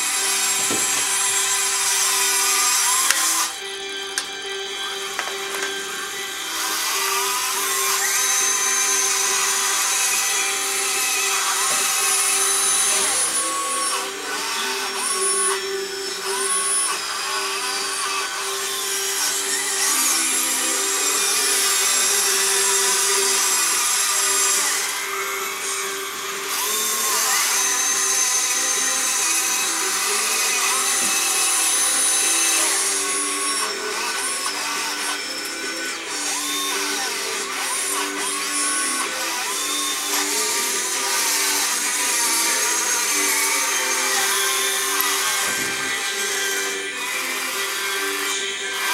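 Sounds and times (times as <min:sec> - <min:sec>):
small electric motors whining: 0:00.0 - 0:48.9.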